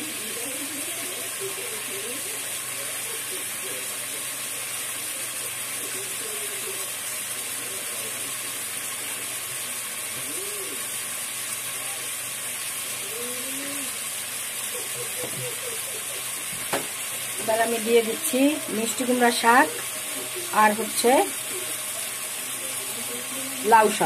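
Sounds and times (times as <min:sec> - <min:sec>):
faint murmur of voices: 0:00.0 - 0:24.0
pot of curry hissing: 0:00.0 - 0:24.0.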